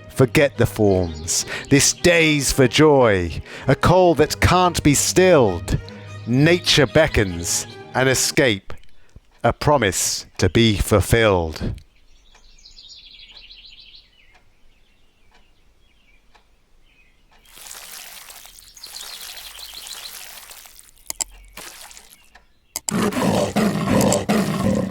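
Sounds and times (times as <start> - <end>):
bird chirping: 0.0 - 3.6, 5.5 - 24.9.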